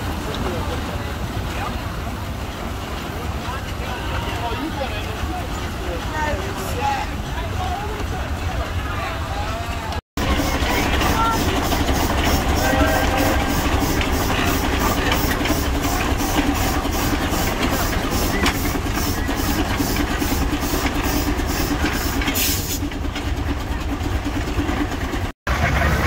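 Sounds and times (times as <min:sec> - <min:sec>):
tractor engine rumbling: 0:00.0 - 0:26.0.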